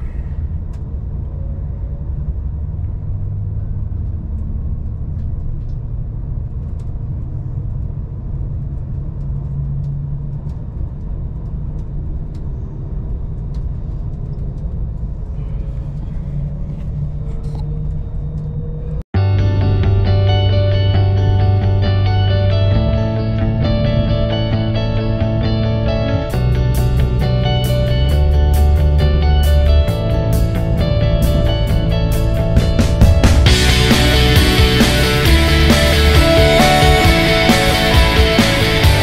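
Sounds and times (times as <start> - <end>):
train rumble from inside carriage: 0.0 - 20.0, 20.7 - 39.0.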